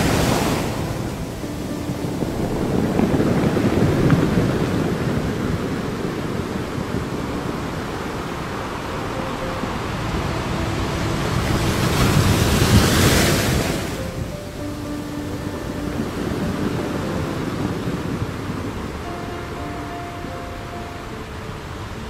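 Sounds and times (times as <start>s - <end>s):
sea surf washing in: 0.0s - 22.0s.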